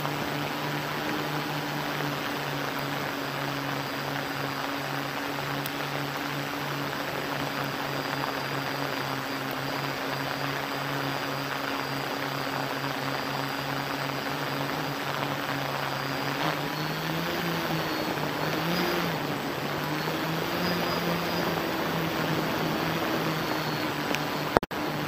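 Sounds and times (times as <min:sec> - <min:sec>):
drone propellers humming: 0:00.0 - 0:25.0.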